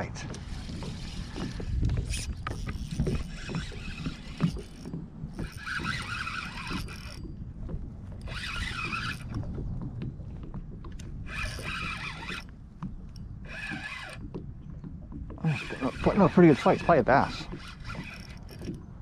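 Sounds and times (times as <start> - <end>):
wind rumble on microphone: 0.0 - 19.0
fishing reel whirring: 0.2 - 7.4, 8.0 - 9.4, 11.0 - 14.4, 15.4 - 18.9.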